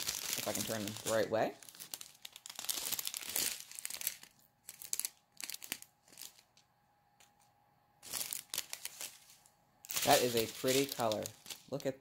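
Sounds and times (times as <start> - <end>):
plastic bags crinkling: 0.0 - 6.6, 8.0 - 12.0.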